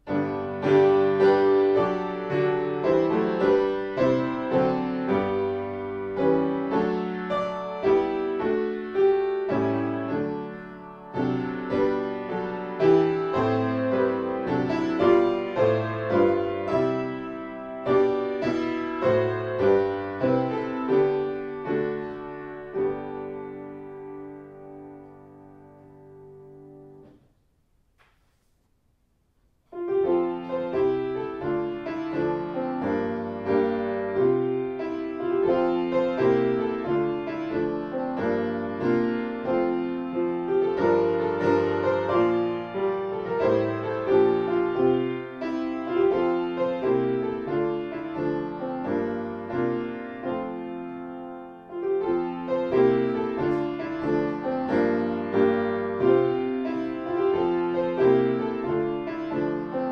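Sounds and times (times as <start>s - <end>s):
piano music: 0.0s - 27.2s, 29.7s - 59.9s.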